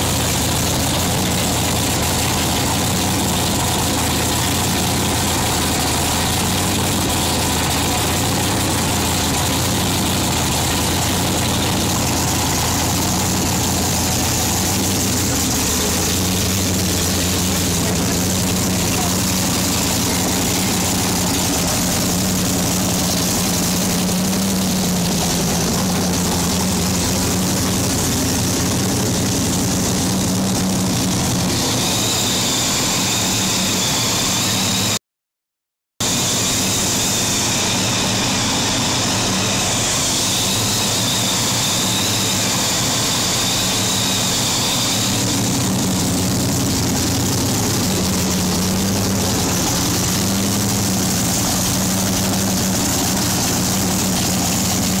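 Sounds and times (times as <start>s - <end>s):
boat engine idling: 0.0s - 35.0s, 36.0s - 55.0s.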